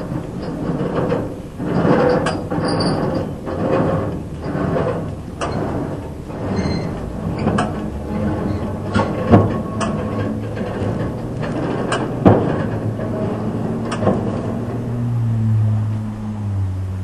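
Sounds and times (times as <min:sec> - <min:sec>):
metallic scraping and clunks: 0:00.0 - 0:15.0.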